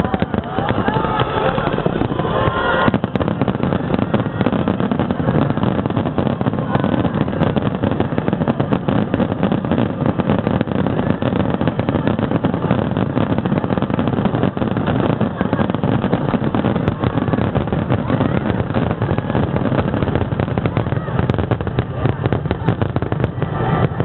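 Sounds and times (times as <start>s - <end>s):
fireworks bursting and crackling: 0.0s - 24.0s
heavy rumble: 0.0s - 24.0s.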